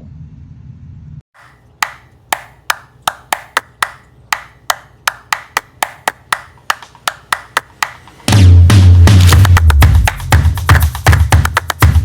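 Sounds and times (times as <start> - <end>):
wood-block-like percussion hits: 1.4 - 12.0.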